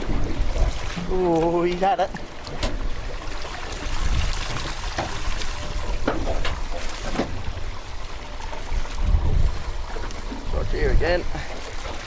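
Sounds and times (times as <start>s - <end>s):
low wind rumble: 0.0s - 12.0s
sea water splashing beside boat: 0.0s - 12.0s.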